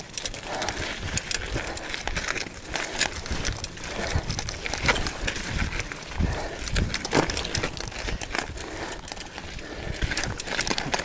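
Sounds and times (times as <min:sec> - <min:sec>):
bike rattling over rocks: 0:00.0 - 0:11.0.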